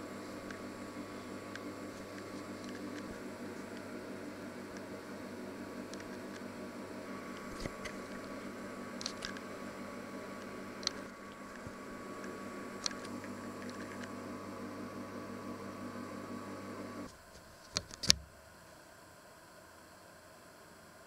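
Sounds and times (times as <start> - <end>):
appliance fan humming: 0.0 - 20.0.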